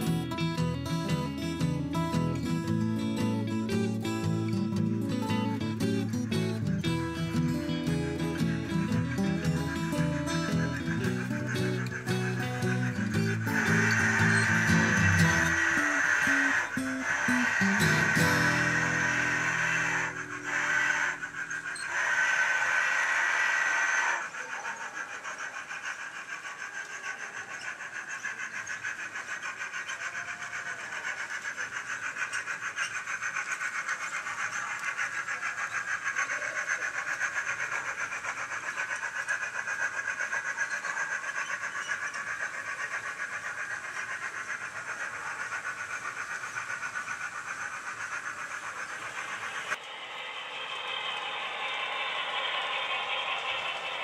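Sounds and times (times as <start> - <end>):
model train clattering: 0.0 - 22.8, 23.6 - 54.0.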